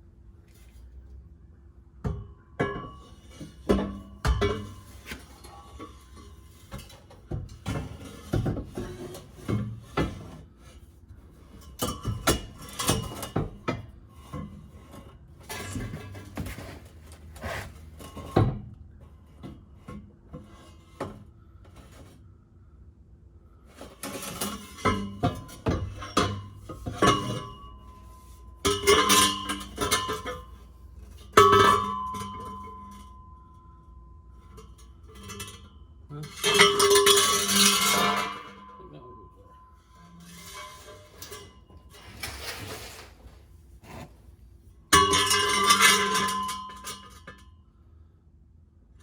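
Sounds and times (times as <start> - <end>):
metal exhaust pipes clanking: 2.1 - 21.5, 23.8 - 42.4, 44.8 - 47.5.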